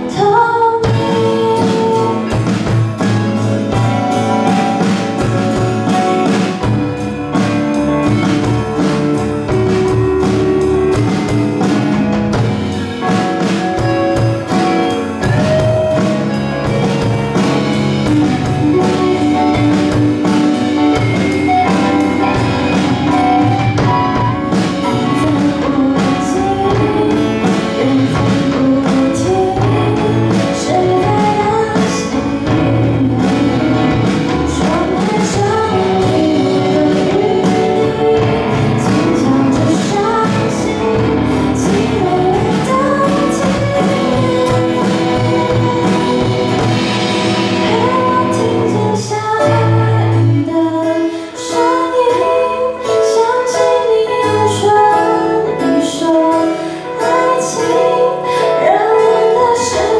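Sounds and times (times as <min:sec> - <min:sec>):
live band playing pop ballad: 0:00.0 - 0:59.9.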